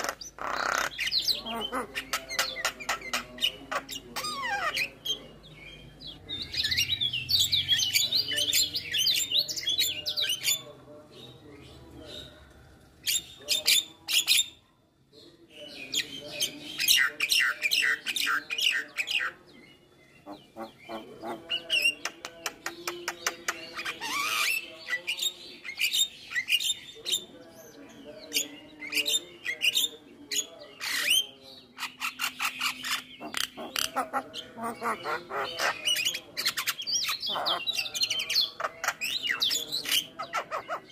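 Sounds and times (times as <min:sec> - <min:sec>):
bird chattering song: 0:00.0 - 0:12.4, 0:15.2 - 0:40.9.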